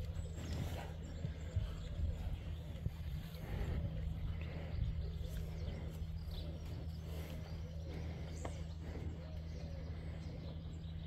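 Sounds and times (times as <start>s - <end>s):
faint bird chirps: 0.0s - 11.0s
steady low hum: 0.0s - 11.0s.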